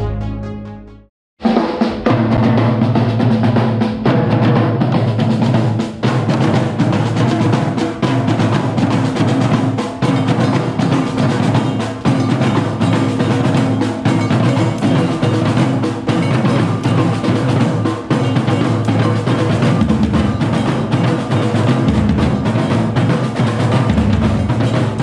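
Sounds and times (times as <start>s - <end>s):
music with heavy drum beat: 1.4s - 25.0s.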